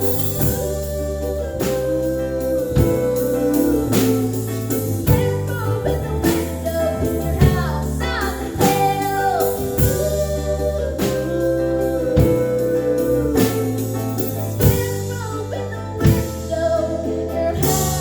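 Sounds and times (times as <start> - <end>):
acoustic string band playing: 0.0 - 18.0
guitar: 0.0 - 18.0
sliding held notes: 0.0 - 18.0.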